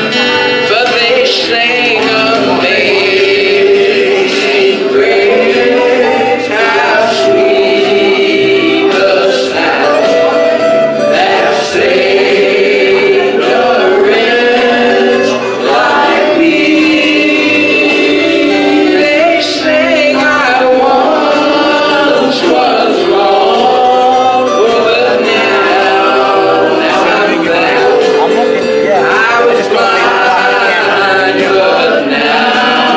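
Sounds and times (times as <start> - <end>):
gospel group singing in harmony: 0.0 - 32.9.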